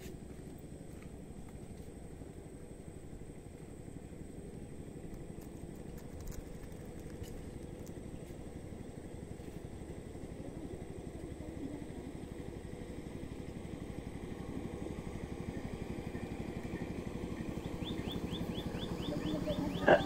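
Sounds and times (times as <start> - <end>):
small engine chugging: 0.0 - 20.0.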